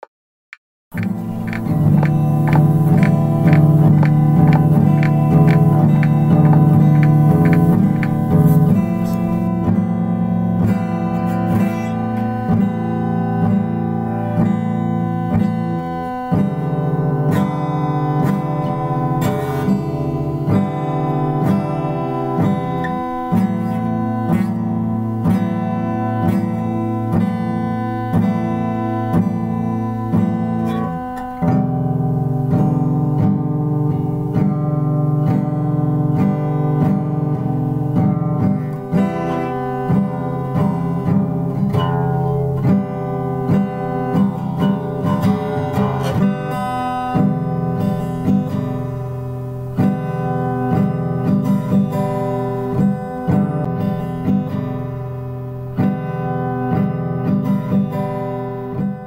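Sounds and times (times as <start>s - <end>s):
steady held tone: 0.9s - 57.2s
plucked guitar: 0.9s - 59.0s.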